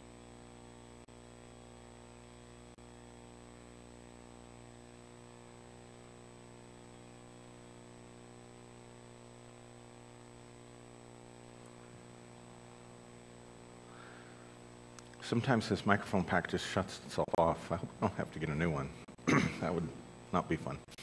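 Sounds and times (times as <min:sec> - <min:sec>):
faint electrical mains hum: 0:00.0 - 0:21.0.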